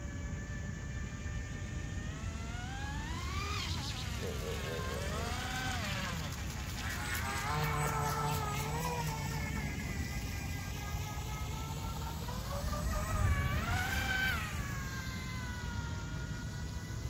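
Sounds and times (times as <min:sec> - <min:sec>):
electric boat motor whining: 0:00.0 - 0:17.0.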